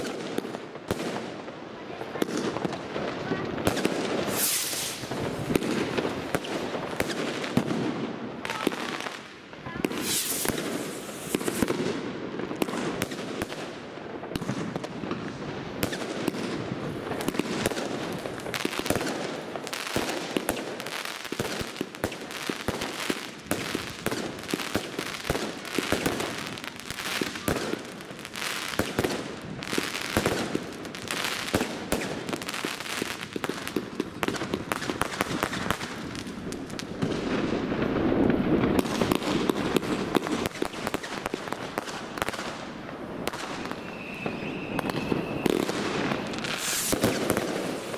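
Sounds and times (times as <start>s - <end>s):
fireworks launching and banging: 0.0s - 1.4s, 2.1s - 47.9s.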